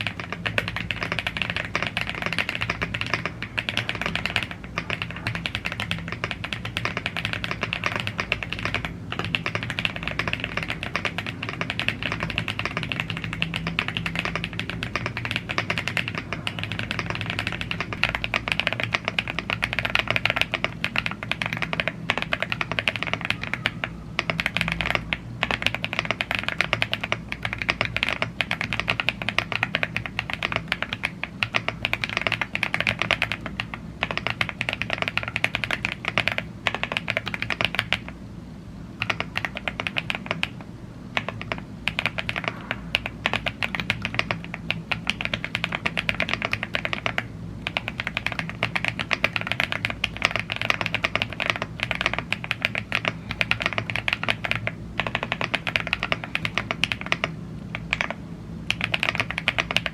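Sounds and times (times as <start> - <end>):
fast typing on mechanical keyboard: 0.0 - 38.2, 39.0 - 59.9.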